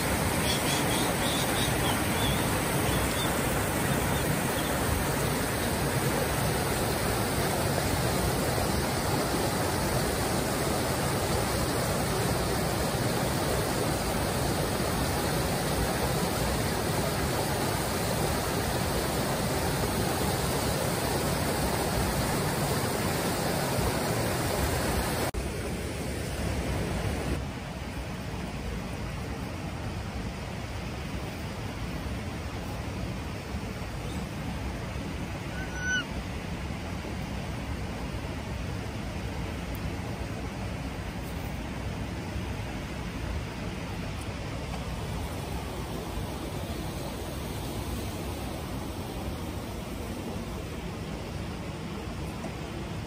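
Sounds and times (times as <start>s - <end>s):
water rushing over rocks: 0.0s - 53.0s.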